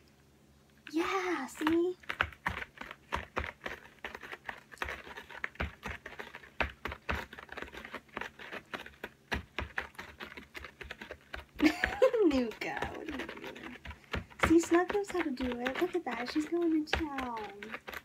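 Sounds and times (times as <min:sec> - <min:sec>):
cat scratching cardboard: 0:00.9 - 0:18.0.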